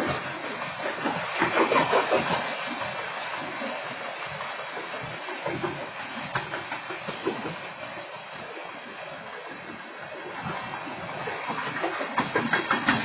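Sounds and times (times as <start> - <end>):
wheels clacking on rail joints: 0.0 - 8.7, 9.4 - 13.0.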